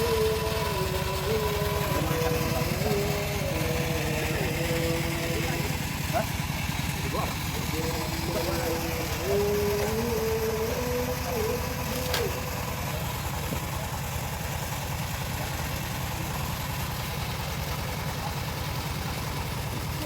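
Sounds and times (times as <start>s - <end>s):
bandsaw motor rumbling: 0.0s - 20.0s.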